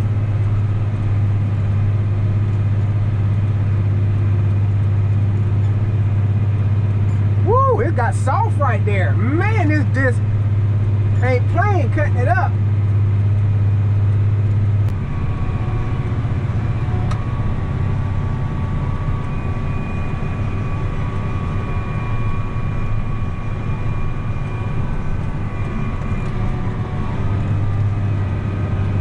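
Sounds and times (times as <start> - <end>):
higher whine: 0.0 - 29.0.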